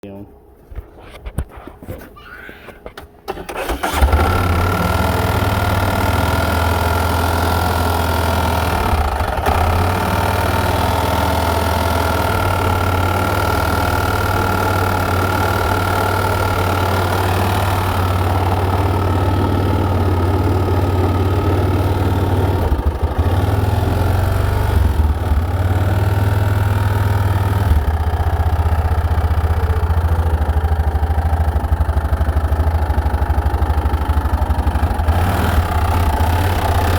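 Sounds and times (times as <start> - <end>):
engine idling: 3.3 - 36.9.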